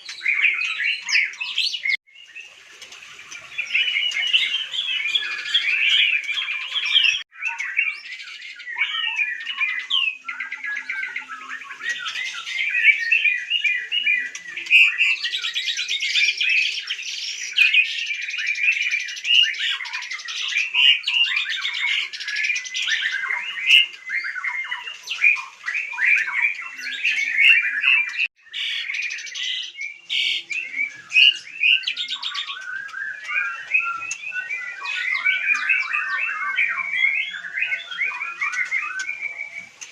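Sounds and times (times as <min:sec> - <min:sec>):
bird singing whistled phrases: 0:00.0 - 0:02.4, 0:03.4 - 0:39.9.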